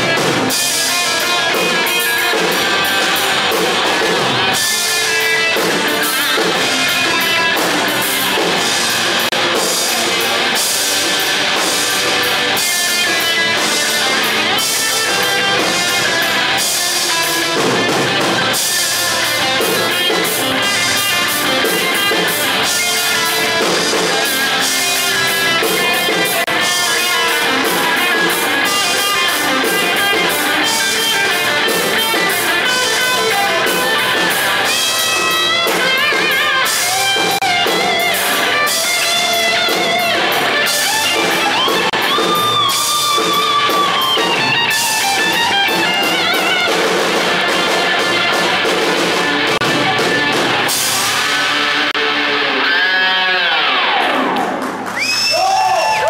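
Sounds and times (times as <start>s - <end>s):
drum kit with cymbals: 0.0s - 52.4s
electric bass: 0.0s - 54.5s
electric guitar: 0.0s - 56.0s.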